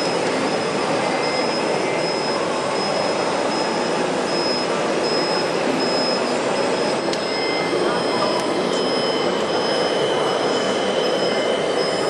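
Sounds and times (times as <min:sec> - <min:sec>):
thin high whine: 0:00.0 - 0:12.0
whirring electric motors: 0:00.0 - 0:12.0.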